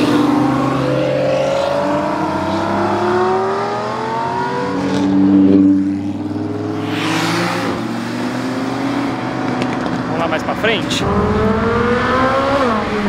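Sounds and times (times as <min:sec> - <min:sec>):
supercar engines accelerating: 0:00.0 - 0:13.0.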